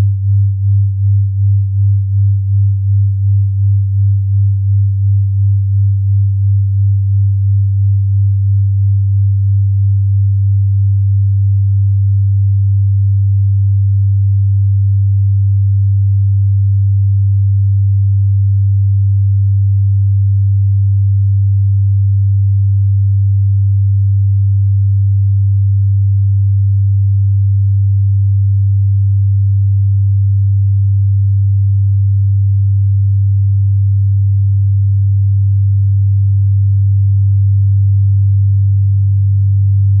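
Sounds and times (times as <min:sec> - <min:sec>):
deep electronic hum: 0:00.0 - 0:40.0.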